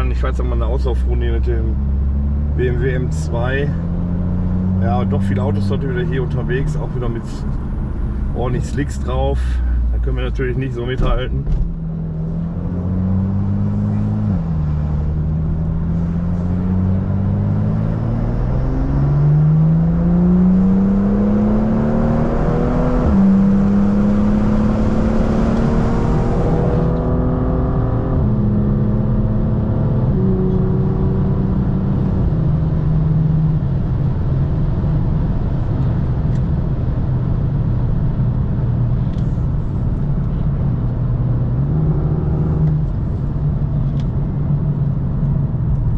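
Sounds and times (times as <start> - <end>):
car engine revving: 0.0 - 35.4, 37.3 - 45.9.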